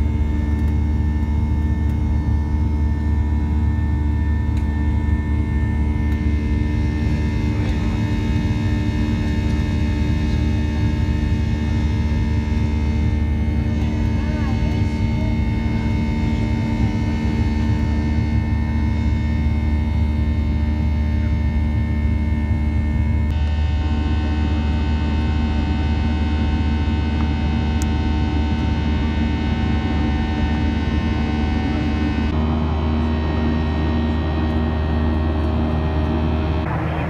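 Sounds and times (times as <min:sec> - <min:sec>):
jet engine drone in cabin: 0:00.0 - 0:37.0
steady whining tones: 0:00.0 - 0:37.0.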